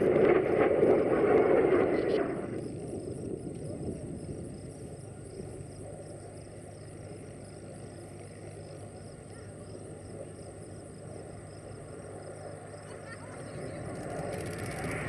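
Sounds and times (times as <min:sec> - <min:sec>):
distant jet aircraft rumble: 0:00.0 - 0:15.0.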